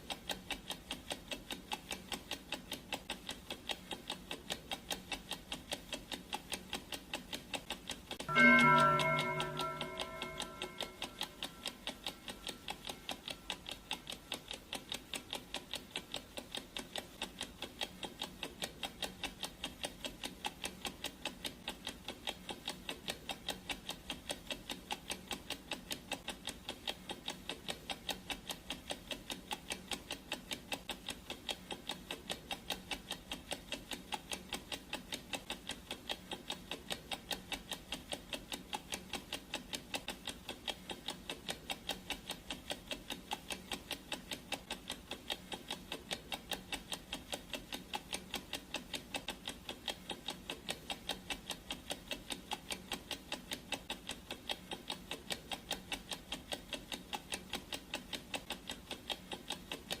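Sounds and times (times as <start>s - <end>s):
clock ticking: 0.0s - 60.0s.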